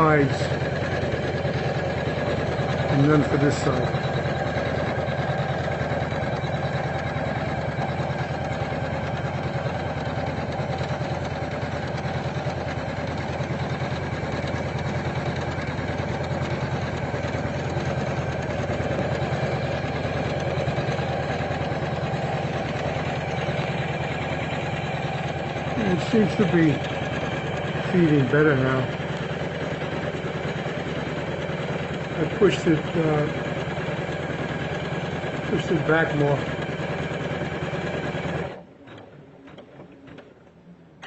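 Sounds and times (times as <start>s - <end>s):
embroidery machine needle stitching: 0.0s - 40.4s
motor hum: 0.0s - 41.0s.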